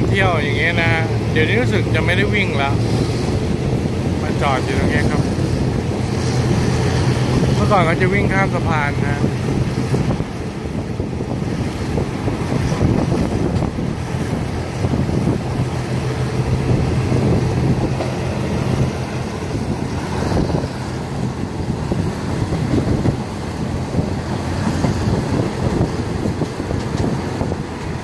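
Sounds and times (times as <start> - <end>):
train engine hum: 0.0 - 28.0
train rumble: 0.0 - 28.0
wind buffeting microphone: 0.0 - 28.0.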